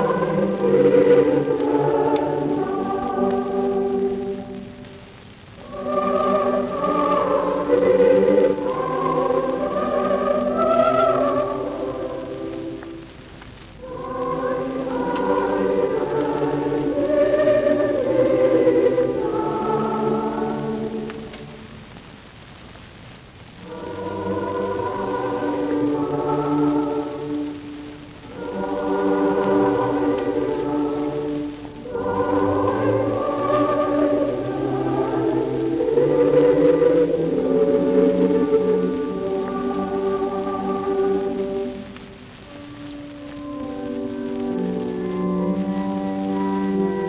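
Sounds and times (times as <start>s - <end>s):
choir singing with orchestra: 0.0s - 22.0s, 23.6s - 47.0s.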